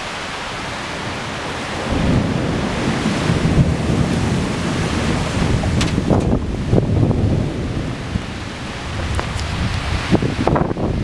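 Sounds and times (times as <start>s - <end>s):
storm wind blowing hard: 0.0s - 11.0s
low rumble and buffeting: 0.7s - 11.0s.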